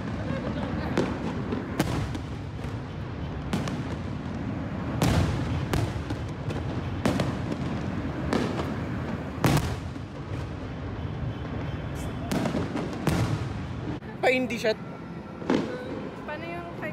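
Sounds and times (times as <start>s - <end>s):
fireworks bangs: 0.0s - 14.1s, 15.3s - 16.3s
distant fireworks rumble: 0.0s - 16.9s.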